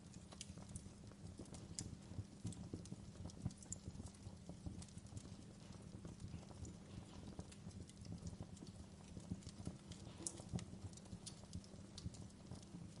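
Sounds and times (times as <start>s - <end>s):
low rumble of burning: 0.0s - 13.0s
wood fire crackling: 0.0s - 13.0s.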